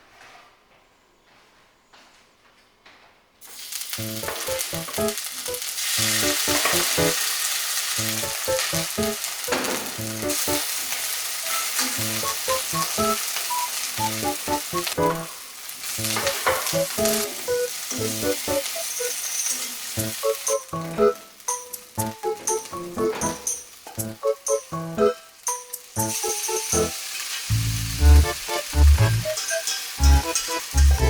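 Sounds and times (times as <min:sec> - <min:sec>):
food sizzling in a pan: 0:03.4 - 0:31.0
light background music: 0:03.9 - 0:10.8, 0:11.4 - 0:31.0.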